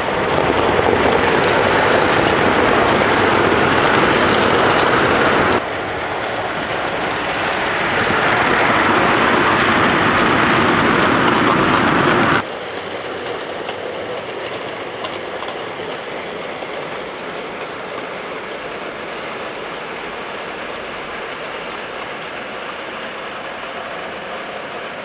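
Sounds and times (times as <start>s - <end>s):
model train rattling past: 0.0s - 25.0s.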